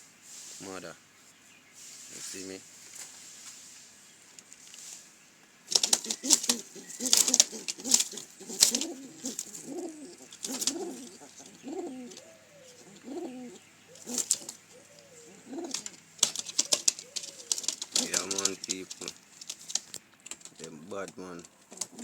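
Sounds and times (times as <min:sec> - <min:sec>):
pigeons cooing: 0:03.9 - 0:22.0.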